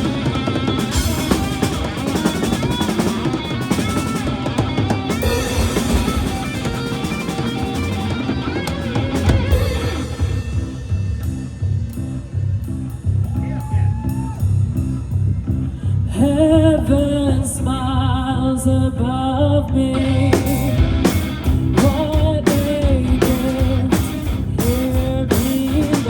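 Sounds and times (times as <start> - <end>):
drum kit beat: 0.0 - 15.6, 20.0 - 26.0
rock band playing: 0.0 - 15.8, 19.9 - 26.0
bass guitar: 0.0 - 26.0
electric guitar lead lines: 0.0 - 26.0.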